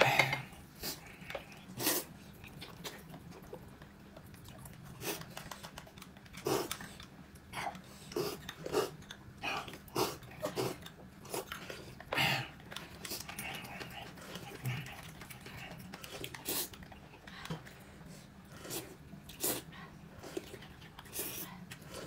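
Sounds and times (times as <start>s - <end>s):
person chewing and smacking: 1.0s - 22.0s.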